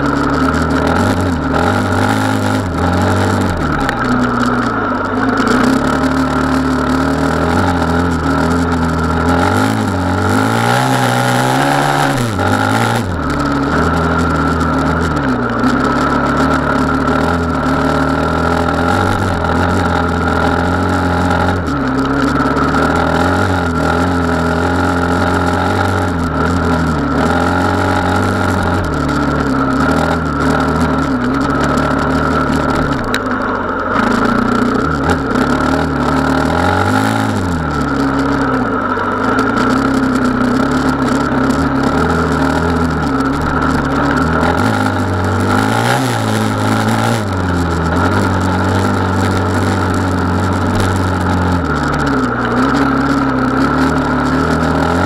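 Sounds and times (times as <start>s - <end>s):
motorcycle engine revving: 0.0s - 55.0s
track noise: 0.0s - 55.0s.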